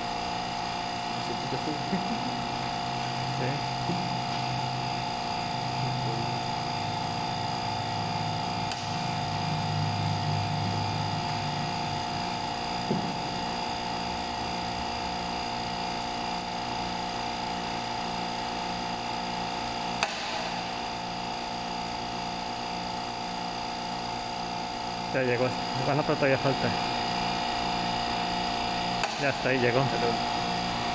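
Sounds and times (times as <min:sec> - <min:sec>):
hydraulic pump humming: 0:00.0 - 0:30.9.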